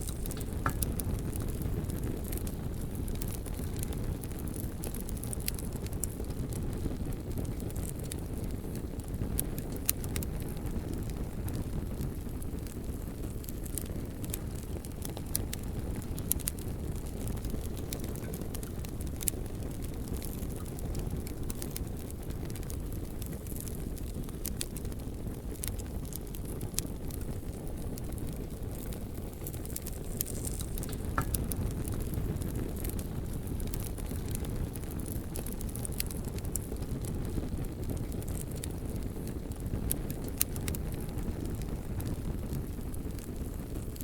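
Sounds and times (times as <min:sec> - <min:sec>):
bonfire crackling and popping: 0:00.0 - 0:44.0.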